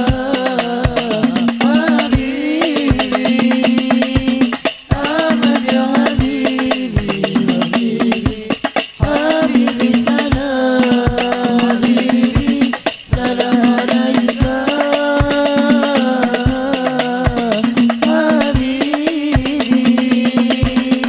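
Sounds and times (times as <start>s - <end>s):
frame drums playing: 0.0s - 21.0s
man singing devotional song: 0.0s - 21.0s.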